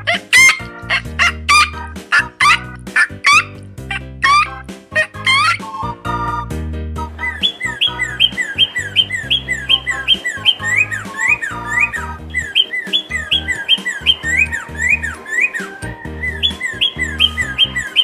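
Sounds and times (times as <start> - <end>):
bird chirping rapidly: 0.0 - 6.3, 7.0 - 18.0
children's music with bass line: 0.0 - 18.0.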